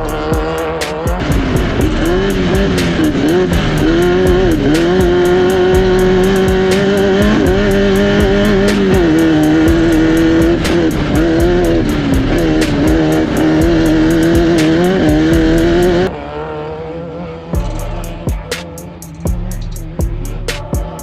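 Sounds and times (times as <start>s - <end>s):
music with steady beat: 0.0s - 16.1s, 17.6s - 21.0s
race car engine revving: 0.0s - 21.0s.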